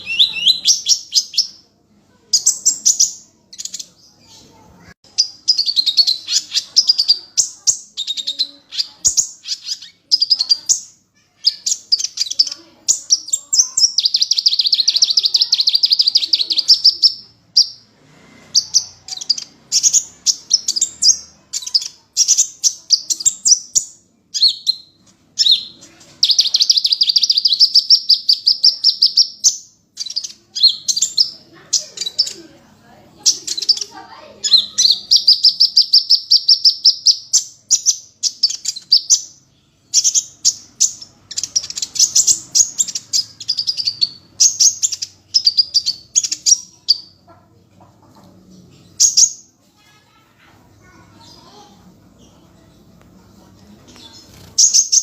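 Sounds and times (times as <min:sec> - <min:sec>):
songbird singing: 0:00.0 - 0:47.4, 0:50.8 - 0:55.0.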